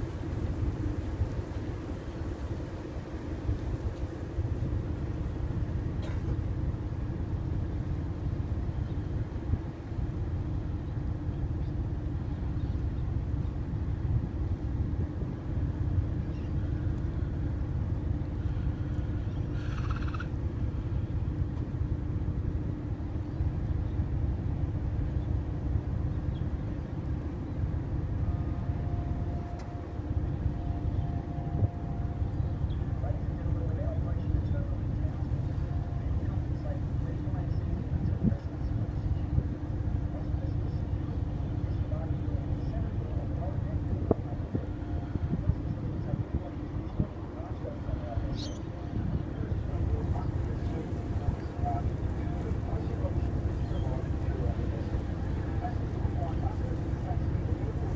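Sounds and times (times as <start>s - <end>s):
faint steady tone: 0.0s - 57.9s
ferry engines droning: 0.0s - 57.9s.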